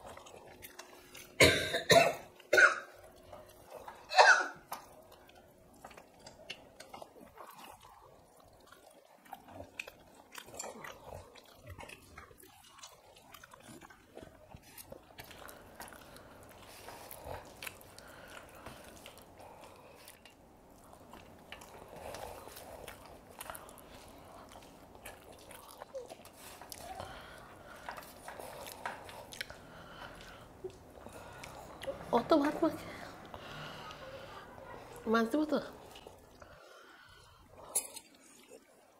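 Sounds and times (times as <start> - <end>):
chewing and mouth noises: 0.0 - 38.9.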